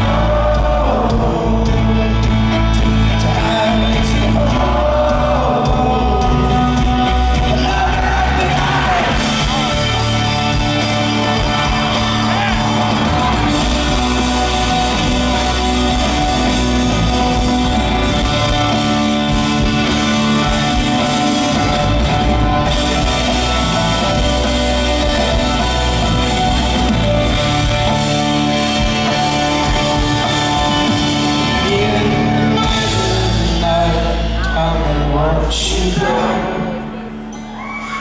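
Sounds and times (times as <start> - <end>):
live folk-rock band playing: 0.0 - 38.0.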